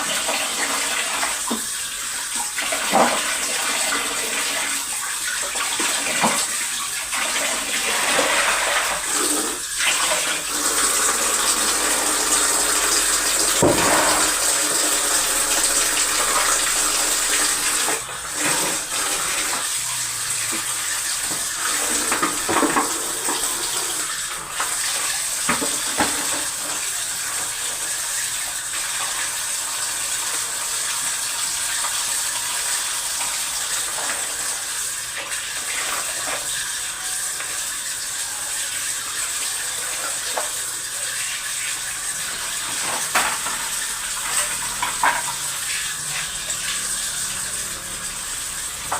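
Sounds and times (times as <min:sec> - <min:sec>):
water running from a tap: 0:00.0 - 0:48.9.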